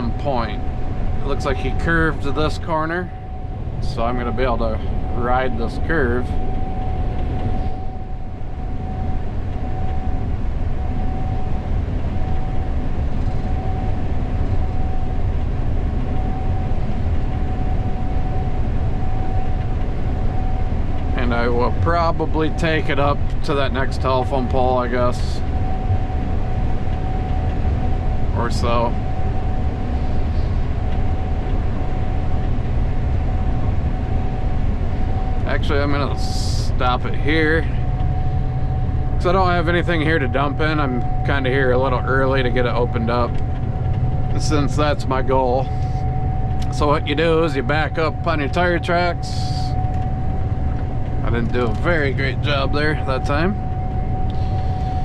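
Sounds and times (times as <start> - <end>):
combine engine and machinery rumble: 0.0 - 55.0
high machinery whine: 0.0 - 55.0.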